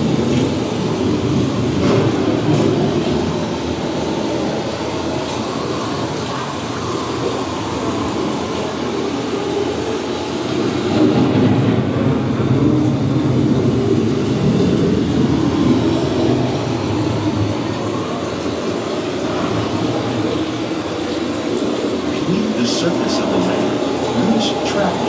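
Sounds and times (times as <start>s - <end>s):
rain: 0.0s - 25.0s.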